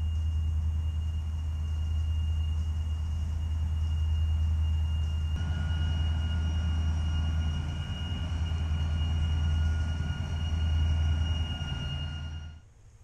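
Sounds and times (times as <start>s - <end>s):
low engine rumble: 0.0s - 12.6s.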